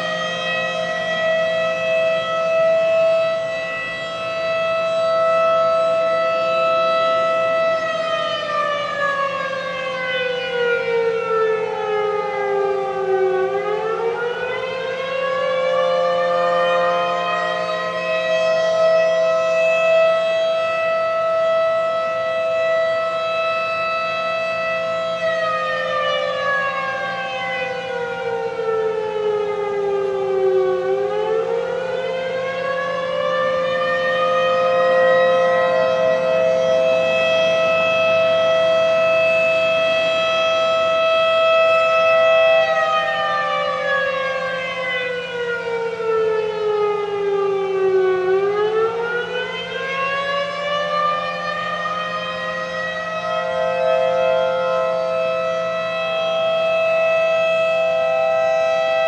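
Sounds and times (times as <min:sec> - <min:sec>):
distant sirens steady tones: 0:00.0 - 0:59.0.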